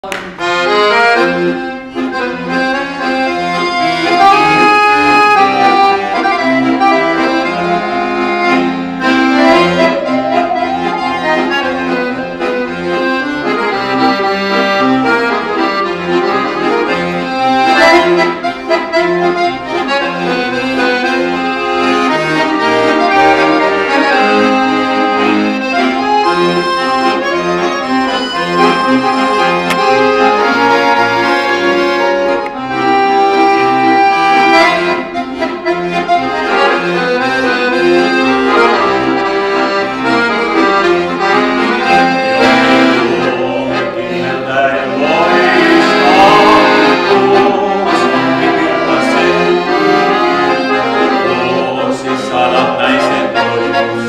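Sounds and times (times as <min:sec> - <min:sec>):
accordions playing a tune: 0:00.0 - 0:54.0
musical saw: 0:00.6 - 0:54.0.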